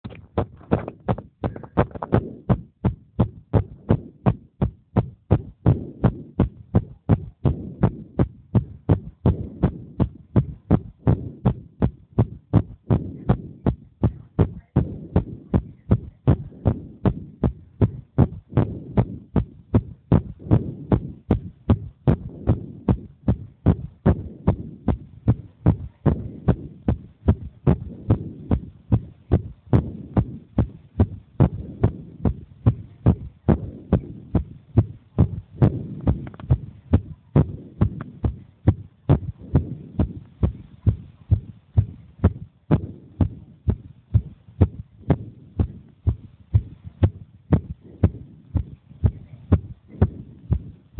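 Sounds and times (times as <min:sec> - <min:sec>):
heartbeat thuds: 0:00.0 - 0:50.9.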